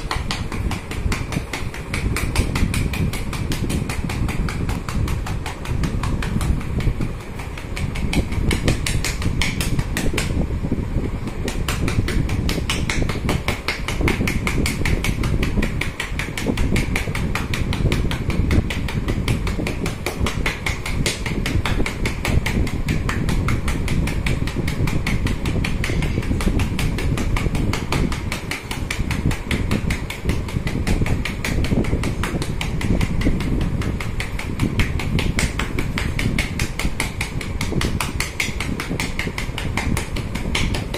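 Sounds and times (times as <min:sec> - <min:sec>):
hand taps on chest: 0:00.0 - 0:10.5, 0:11.2 - 0:40.9
steady low rumble: 0:00.0 - 0:40.9.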